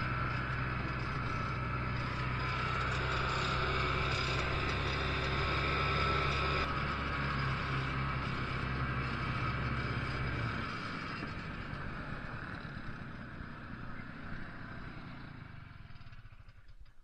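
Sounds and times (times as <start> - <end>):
snowmobile engine running: 0.0 - 16.8.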